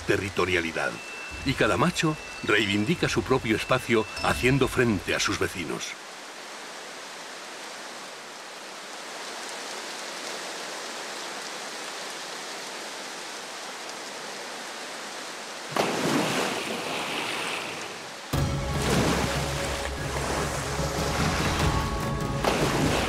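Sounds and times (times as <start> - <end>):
loud splashing and churning water: 0.0 - 23.0
rain falling on a river: 0.0 - 23.0.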